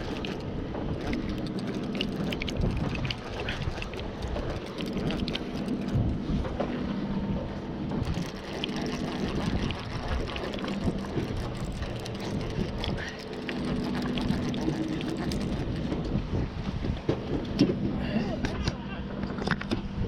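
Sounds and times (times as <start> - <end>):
water noise: 0.0 - 18.5
low boat engine hum: 0.0 - 20.0
wind: 0.0 - 20.0.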